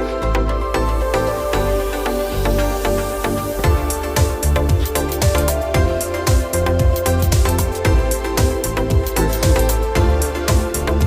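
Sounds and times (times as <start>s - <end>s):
deep bass pulse: 0.0s - 11.0s
electronic music with beat: 0.0s - 11.0s.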